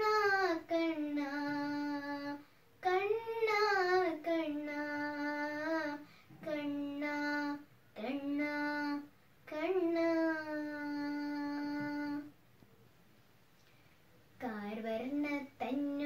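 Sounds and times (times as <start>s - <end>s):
girl singing unaccompanied: 0.0s - 12.4s, 14.4s - 16.0s.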